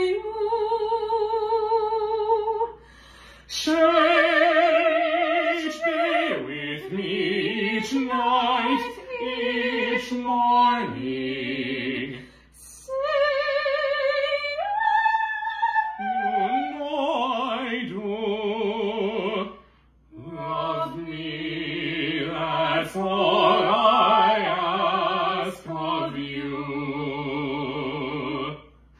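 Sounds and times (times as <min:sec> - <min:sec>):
woman singing with vibrato: 0:00.0 - 0:02.8, 0:03.5 - 0:19.5, 0:20.1 - 0:28.5
man singing with vibrato: 0:03.5 - 0:28.7.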